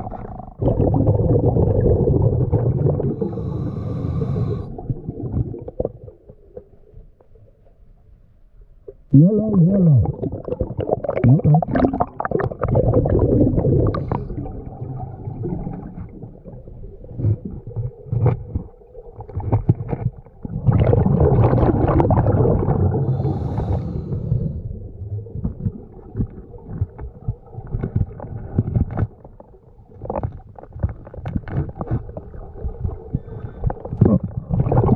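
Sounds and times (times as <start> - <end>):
underwater breath bubbling: 0.0 - 6.3, 9.2 - 29.0, 31.4 - 34.9.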